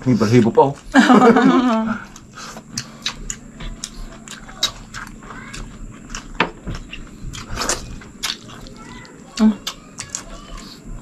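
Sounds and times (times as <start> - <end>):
wet chewing: 1.6 - 11.0.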